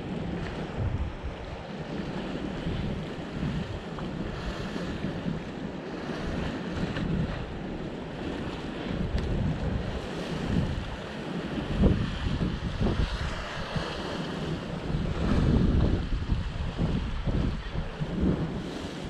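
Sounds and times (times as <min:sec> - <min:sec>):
sea waves washing against rocks: 0:00.0 - 0:19.0
wind buffeting the microphone: 0:00.0 - 0:19.0.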